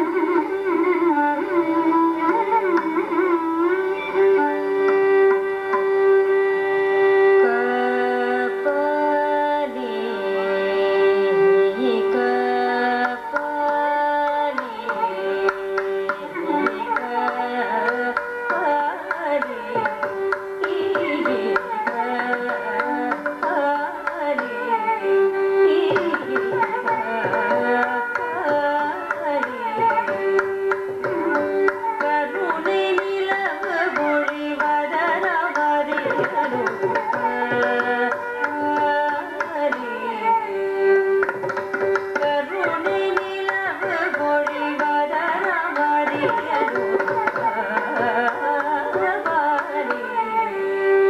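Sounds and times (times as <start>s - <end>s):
violin: 0.0s - 51.0s
woman singing: 0.0s - 51.0s.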